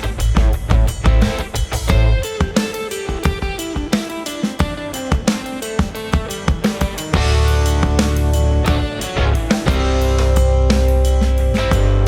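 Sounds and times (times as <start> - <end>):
band music with guitar and drums: 0.0 - 12.0.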